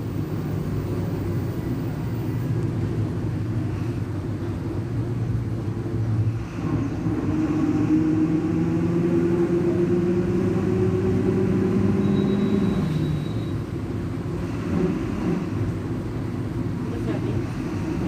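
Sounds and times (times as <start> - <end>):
bus differential droning: 0.0 - 18.0.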